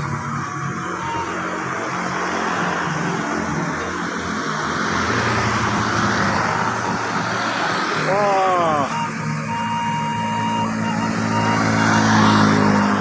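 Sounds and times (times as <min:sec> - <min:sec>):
tyre and road noise: 0:00.0 - 0:13.0
vehicle engine hum: 0:00.0 - 0:13.0.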